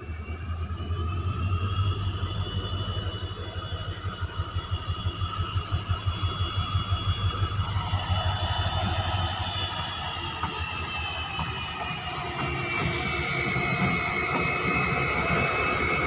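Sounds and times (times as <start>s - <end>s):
diesel locomotive engine hum: 0.0s - 16.0s
turbocharger whine: 0.0s - 16.0s.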